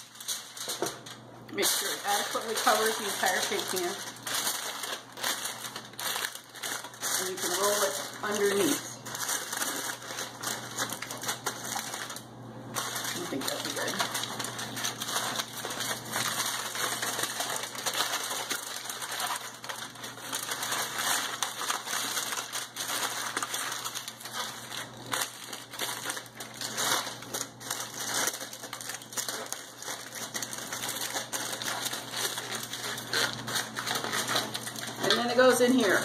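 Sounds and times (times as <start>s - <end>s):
aluminium foil crinkling: 0.0s - 36.0s.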